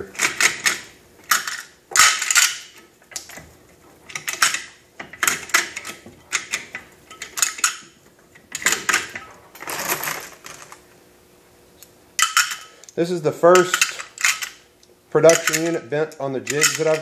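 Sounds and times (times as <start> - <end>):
cartridges and belt links clattering: 0.1 - 3.5, 4.1 - 10.8, 12.2 - 14.6, 15.2 - 17.0.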